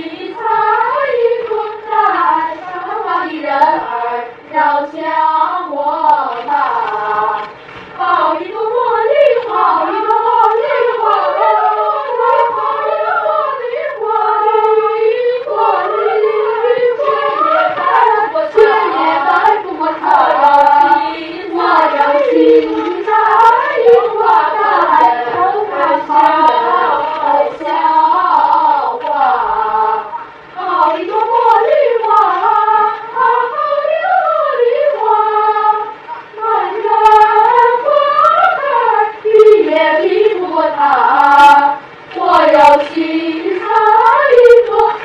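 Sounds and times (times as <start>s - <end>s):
children singing in unison: 0.0s - 45.0s.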